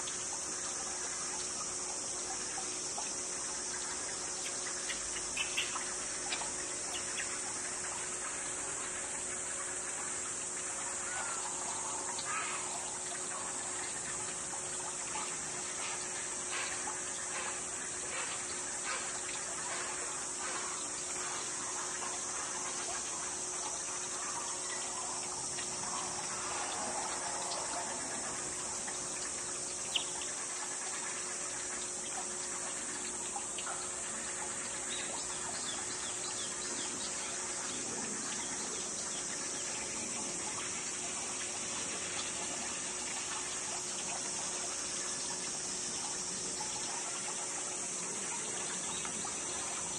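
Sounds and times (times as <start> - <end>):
constant high hiss: 0.0 - 49.9
high-pitched insect drone: 0.0 - 49.9.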